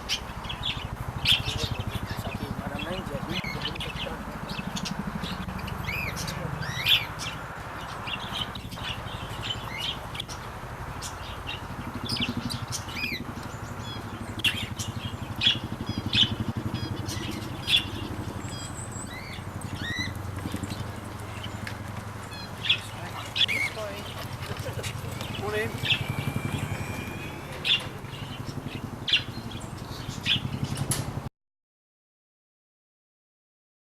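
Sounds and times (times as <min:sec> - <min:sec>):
birds chirping and calling: 0:00.0 - 0:31.2
low steady background rumble: 0:00.0 - 0:31.3.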